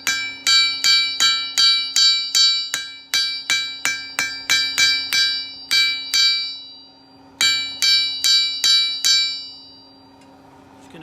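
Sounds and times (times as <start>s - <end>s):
hammer striking steel on anvil: 0.0s - 10.1s
anvil ringing: 0.0s - 10.2s.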